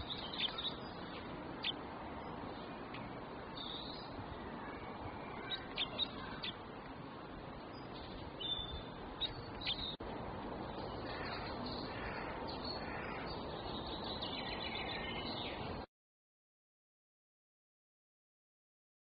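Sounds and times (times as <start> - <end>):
birds chirping: 0.0 - 15.9
steady background hiss: 0.0 - 15.9.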